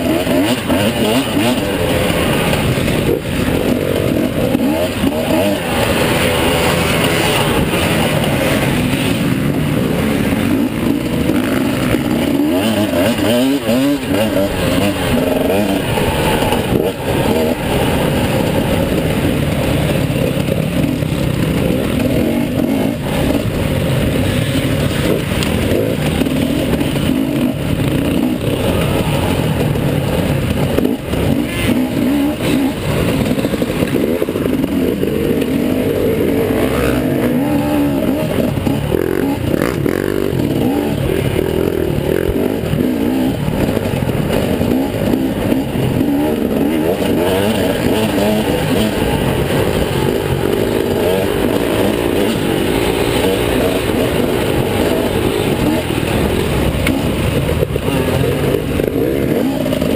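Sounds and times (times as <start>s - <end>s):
dirt bike engine revving: 0.0s - 59.9s
rattling and clatter: 0.0s - 59.9s.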